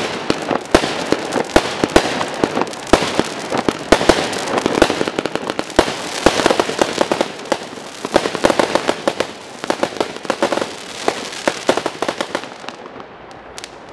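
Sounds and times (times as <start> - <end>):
firework crackling: 0.0 - 13.9.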